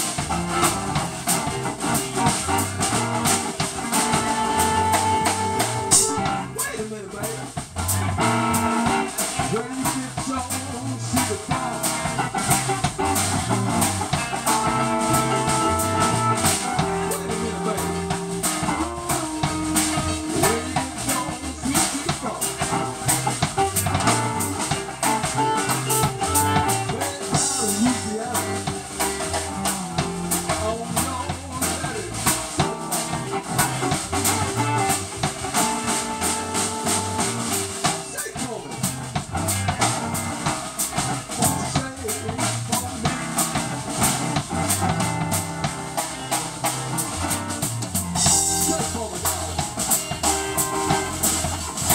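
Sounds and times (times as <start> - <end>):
drum kit beat: 0.0 - 51.9
electric guitars: 0.0 - 51.9
keyboard playing: 0.0 - 51.9.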